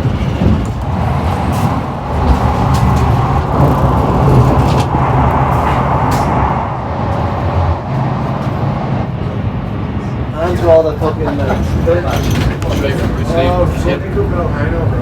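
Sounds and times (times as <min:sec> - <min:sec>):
train rumbling and rushing: 0:00.0 - 0:15.0.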